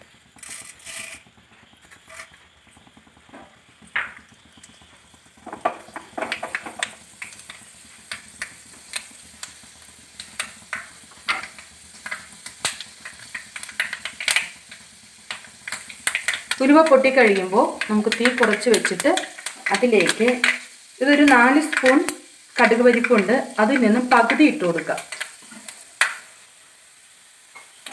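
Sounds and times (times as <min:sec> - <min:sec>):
crackles and pops of frying seeds: 0:00.0 - 0:27.9
seeds sizzling in oil: 0:00.0 - 0:27.9.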